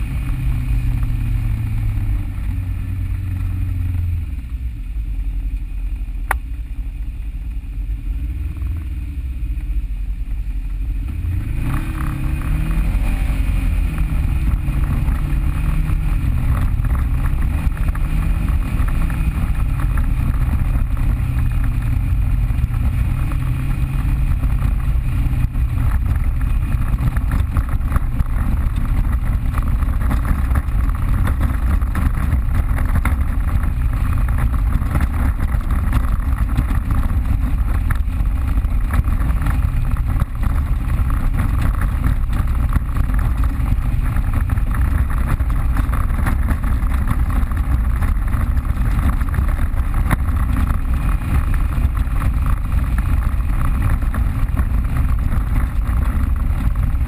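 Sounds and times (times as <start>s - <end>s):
off-road vehicle engine running: 0.0s - 57.0s
steady rushing noise: 0.0s - 57.0s.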